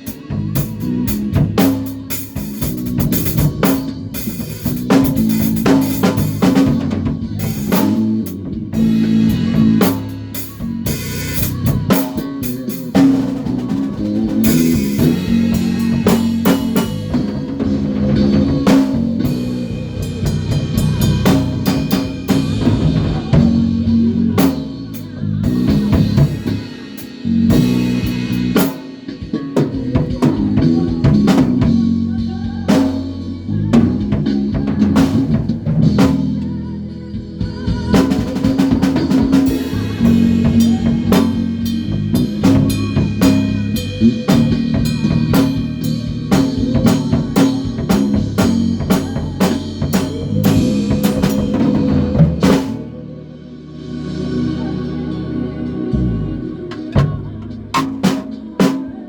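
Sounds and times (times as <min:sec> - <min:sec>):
drum kit beat: 0:00.0 - 0:53.1, 0:54.0 - 0:59.0
bass line: 0:00.0 - 0:58.8.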